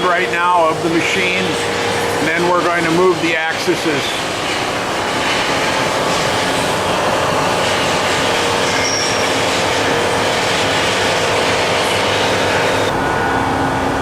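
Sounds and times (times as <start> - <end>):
boring mill running: 0.0 - 14.0.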